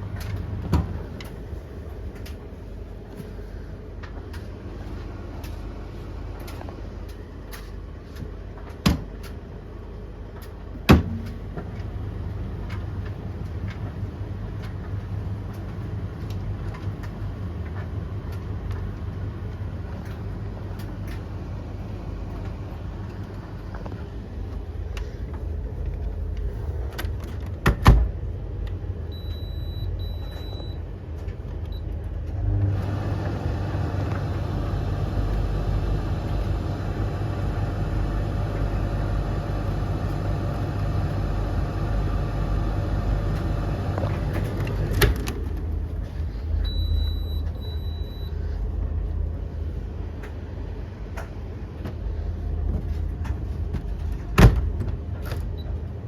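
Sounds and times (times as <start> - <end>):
tumble dryers rumbling: 0.0 - 56.0.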